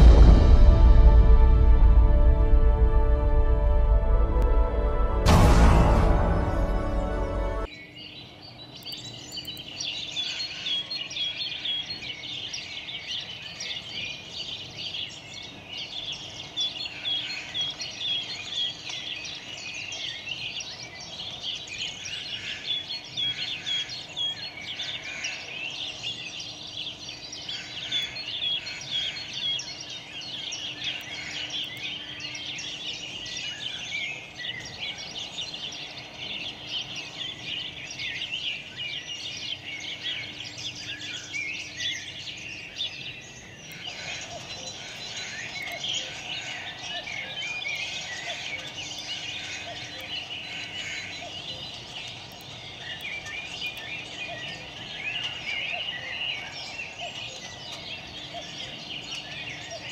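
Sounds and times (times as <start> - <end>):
small birds chirping: 7.7 - 59.9.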